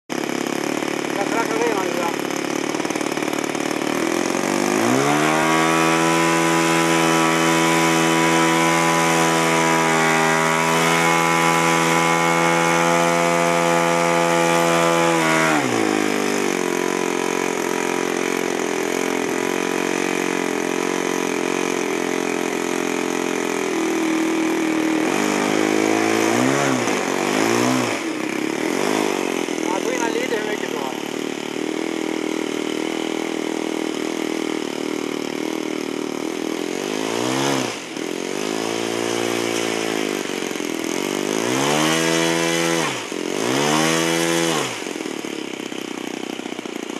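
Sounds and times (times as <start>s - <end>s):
model airplane engine revving: 0.1s - 46.9s.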